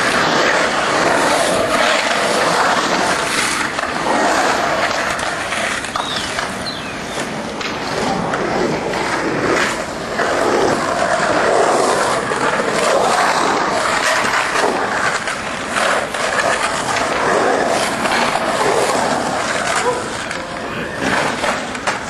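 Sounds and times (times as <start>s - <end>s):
skateboard wheels rolling on concrete: 0.0s - 22.0s.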